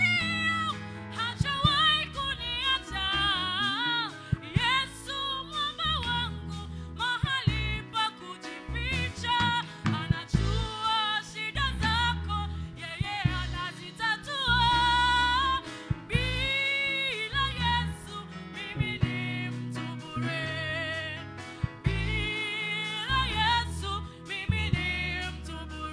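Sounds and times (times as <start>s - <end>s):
instrumental backing music: 0.0s - 25.9s
person singing gospel song: 0.0s - 25.9s.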